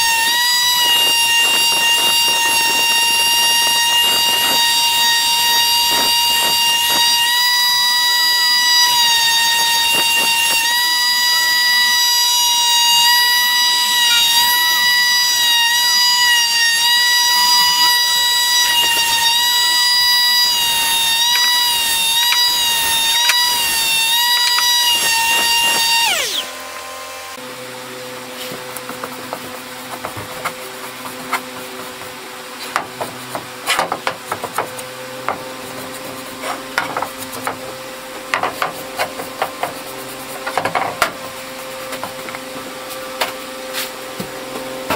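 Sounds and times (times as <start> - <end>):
electric sander whining: 0.0 - 44.9.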